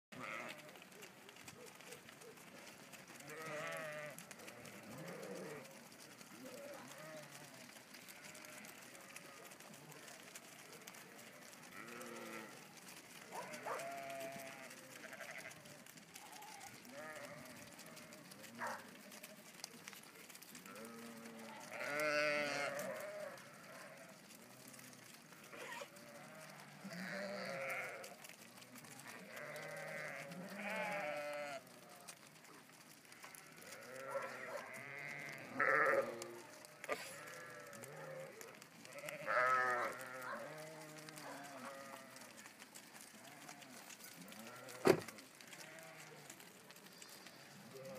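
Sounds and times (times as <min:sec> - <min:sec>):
sheep bleating: 0:00.2 - 0:00.8, 0:03.1 - 0:09.7, 0:11.2 - 0:18.9, 0:20.6 - 0:32.2, 0:33.0 - 0:46.4, 0:47.6 - 0:47.9.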